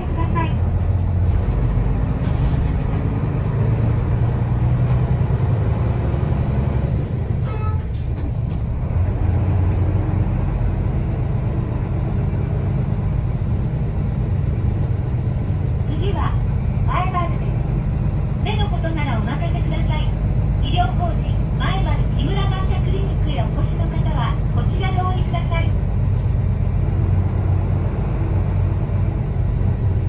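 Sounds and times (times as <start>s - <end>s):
bus diesel engine droning: 0.0s - 30.0s.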